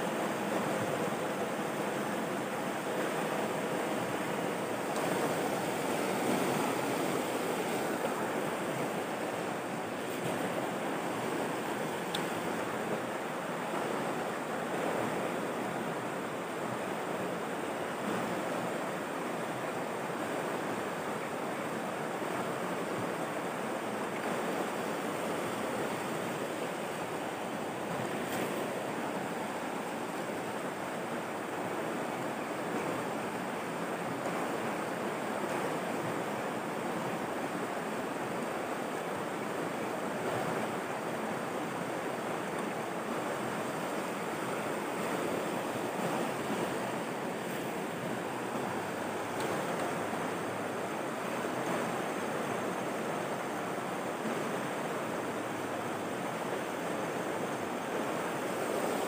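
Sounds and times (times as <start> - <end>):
river water rushing over rapids: 0.0 - 59.0.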